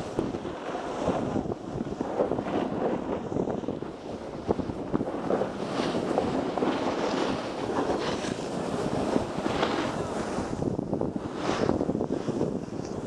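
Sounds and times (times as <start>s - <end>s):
skis carving packed snow: 0.0s - 13.0s
wind buffeting microphone: 0.0s - 13.0s.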